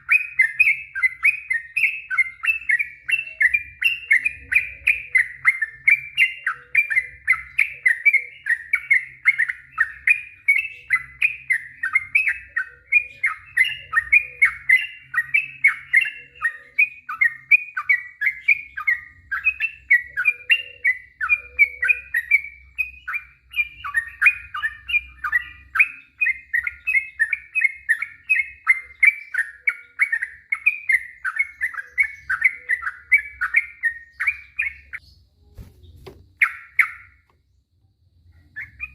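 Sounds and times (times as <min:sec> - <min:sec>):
bird singing rapid whistled notes: 0:00.0 - 0:37.3, 0:38.2 - 0:38.9.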